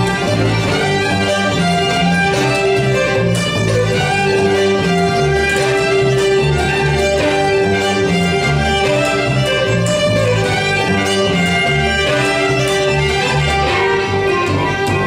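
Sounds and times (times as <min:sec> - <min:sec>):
fiddles playing a folk tune: 0:00.0 - 0:15.0
plucked upright bass: 0:00.0 - 0:15.0.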